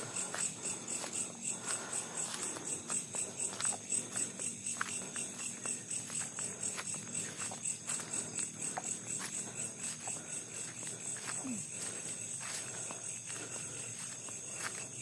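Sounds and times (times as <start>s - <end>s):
crickets chirping in a pulsing trill: 0.0s - 15.0s
faint ticks and rustles: 0.0s - 15.0s.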